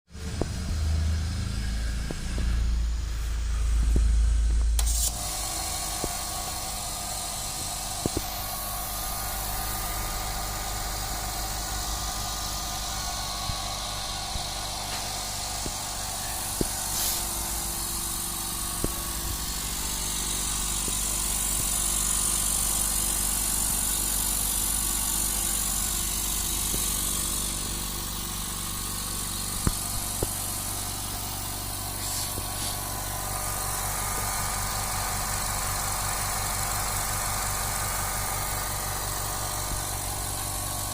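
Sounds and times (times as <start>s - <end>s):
air compressor motor hum: 0.1s - 40.9s
high hiss: 3.2s - 24.2s, 24.9s - 40.9s.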